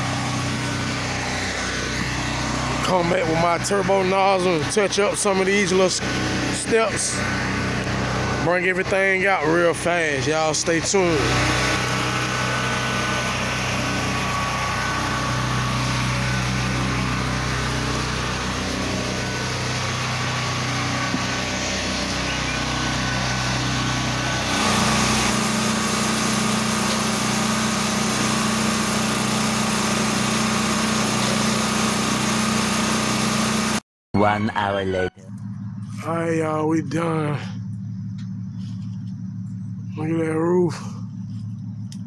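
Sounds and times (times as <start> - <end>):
pressure washer engine running: 0.0 - 33.8, 35.8 - 42.0.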